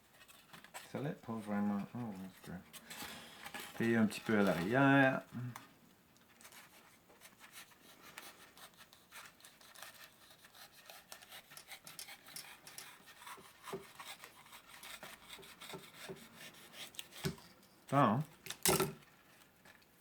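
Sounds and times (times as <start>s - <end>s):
knife scraping styrofoam: 0.0s - 5.2s, 6.4s - 17.6s.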